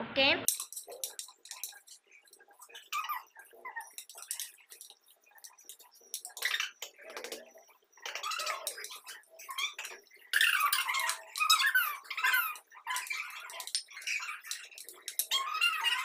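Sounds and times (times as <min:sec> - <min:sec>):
high squeaky voice-like chatter: 0:00.4 - 0:16.0.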